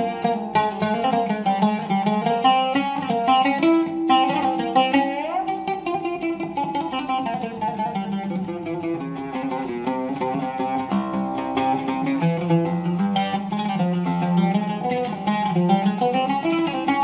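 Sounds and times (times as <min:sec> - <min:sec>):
oud plucked: 0:00.0 - 0:17.0.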